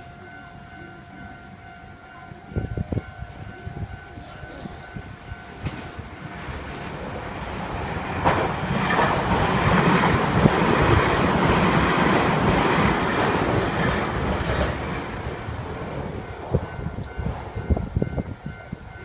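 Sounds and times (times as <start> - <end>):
train wheel and rail noise: 0.0 - 19.0.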